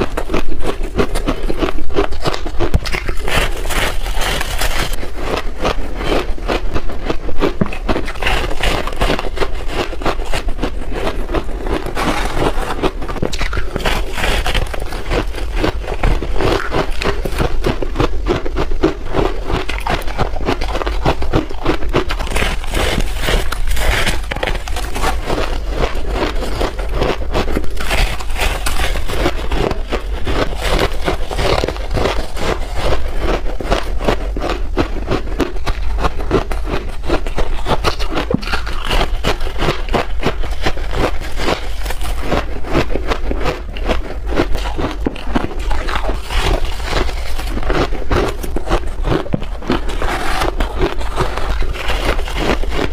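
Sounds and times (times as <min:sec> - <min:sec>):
chewing crunchy ice: 0:00.0 - 0:52.9.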